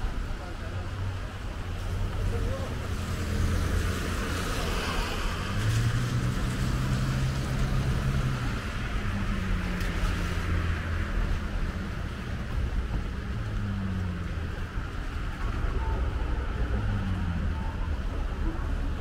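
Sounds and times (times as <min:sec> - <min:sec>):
car engines passing: 0:00.0 - 0:19.0.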